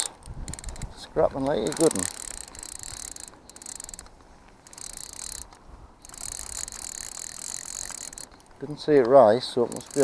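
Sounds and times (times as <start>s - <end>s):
fishing reel ratchet clicking: 0.0s - 8.5s, 9.7s - 10.0s.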